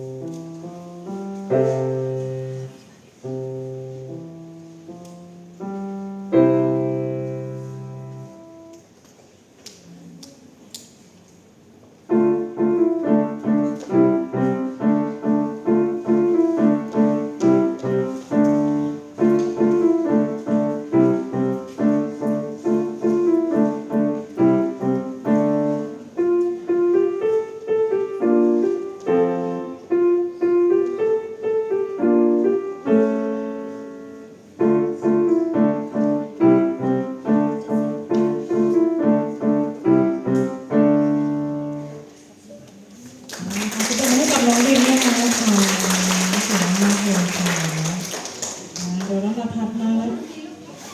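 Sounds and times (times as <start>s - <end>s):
grand piano playing: 0.0s - 9.0s, 12.0s - 42.4s, 43.5s - 49.3s.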